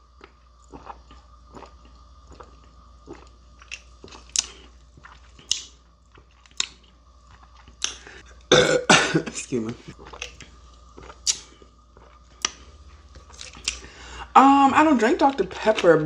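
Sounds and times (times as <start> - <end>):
person chewing food: 0.0 - 8.8, 9.9 - 14.1.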